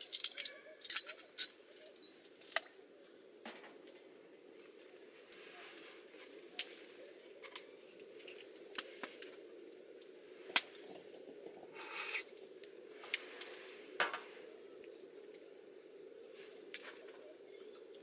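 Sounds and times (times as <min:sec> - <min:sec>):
steady low hum: 0:00.0 - 0:18.0
wood fire crackling: 0:00.0 - 0:18.0.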